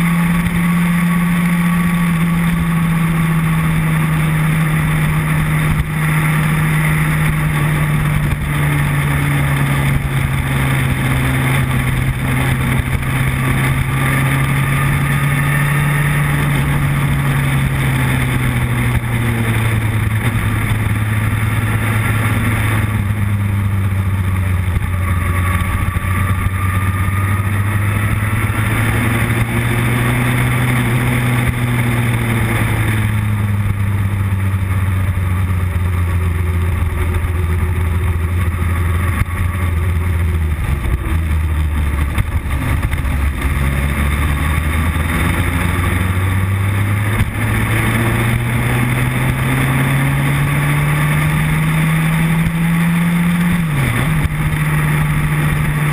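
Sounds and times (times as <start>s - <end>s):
motorcycle engine running: 0.0s - 55.9s
wind and road noise: 0.0s - 55.9s.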